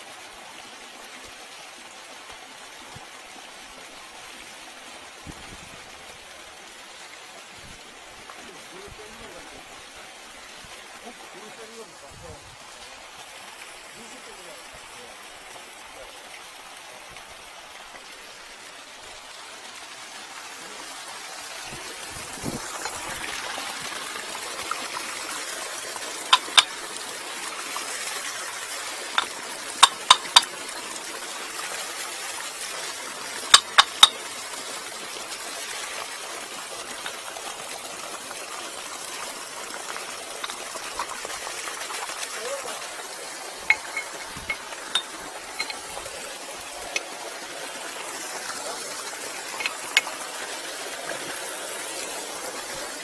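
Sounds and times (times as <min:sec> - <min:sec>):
water running from plumbing: 0:00.0 - 0:53.0.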